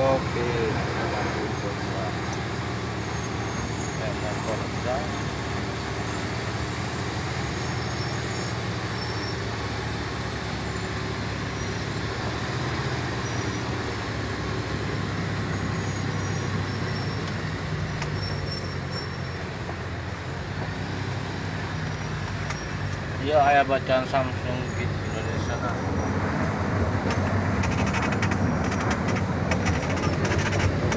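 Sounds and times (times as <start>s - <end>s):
diesel truck engine running: 0.0s - 30.9s
tyres rumbling on gravel road: 0.0s - 30.9s.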